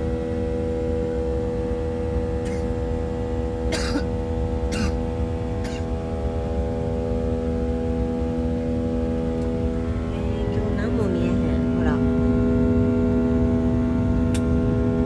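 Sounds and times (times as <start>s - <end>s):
airliner cabin drone: 0.0s - 15.0s
multi-tone hum: 0.0s - 15.0s.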